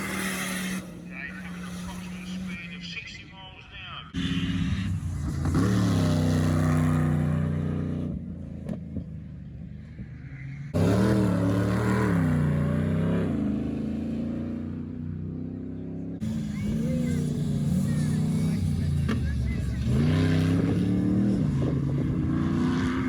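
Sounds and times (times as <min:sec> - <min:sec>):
engine revving: 0:00.0 - 0:03.5, 0:04.1 - 0:09.3, 0:09.9 - 0:23.0.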